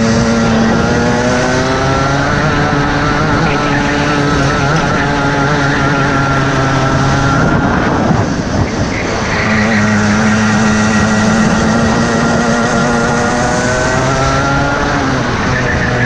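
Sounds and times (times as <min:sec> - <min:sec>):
kart engine running hard: 0:00.0 - 0:16.0.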